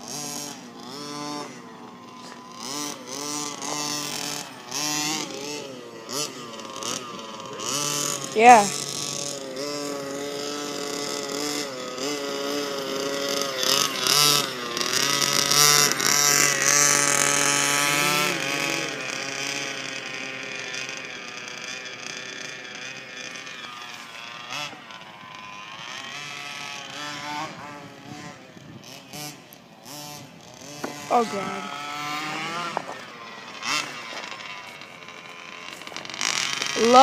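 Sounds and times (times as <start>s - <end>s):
small engine revving: 0.0s - 37.0s.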